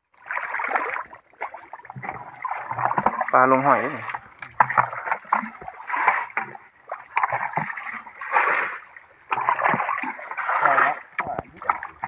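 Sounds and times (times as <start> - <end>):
muddy water splashing: 0.1 - 12.0.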